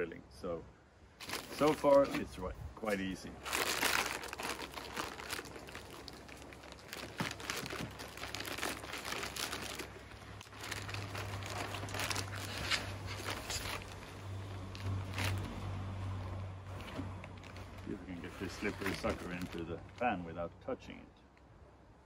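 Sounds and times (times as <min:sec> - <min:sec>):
plastic packaging crinkling: 0:01.2 - 0:02.4, 0:03.0 - 0:20.1.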